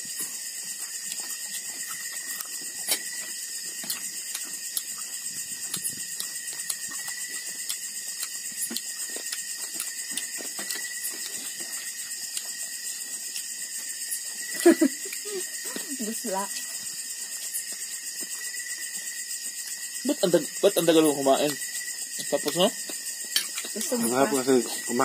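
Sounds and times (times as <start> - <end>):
night insects chorus: 0.0 - 25.0.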